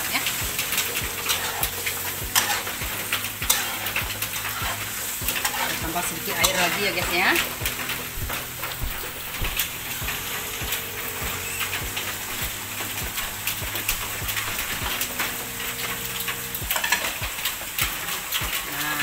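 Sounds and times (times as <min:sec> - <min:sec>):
fish sizzling in a wok: 0:00.0 - 0:19.0
metal spatula scraping wok: 0:00.2 - 0:17.2.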